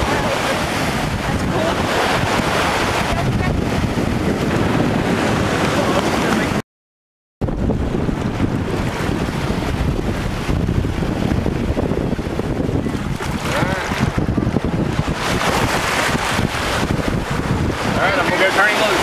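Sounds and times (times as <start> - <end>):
surf washing on shore: 0.0 - 6.6, 7.4 - 19.0
wind buffeting microphone: 0.0 - 6.6, 7.4 - 19.0.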